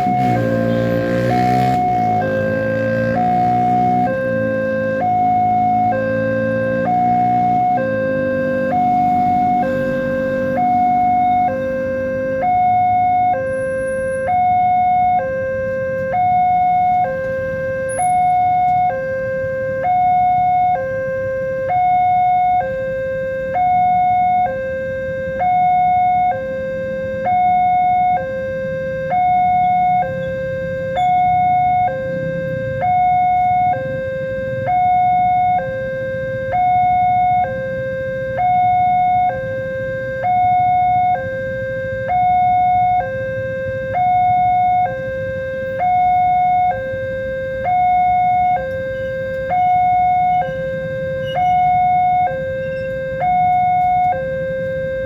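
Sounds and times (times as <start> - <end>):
electronic two-tone crossing alarm: 0.0 - 55.0.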